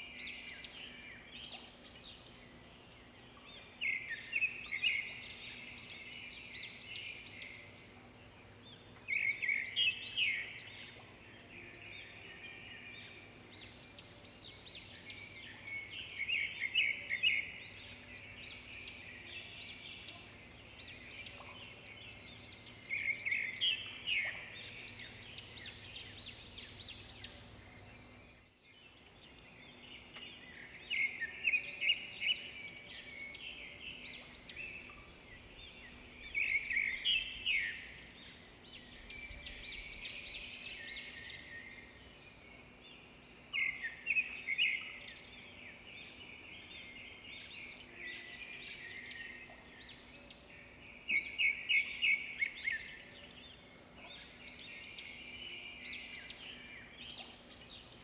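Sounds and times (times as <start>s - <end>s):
songbird high chirps: 0.0s - 58.0s.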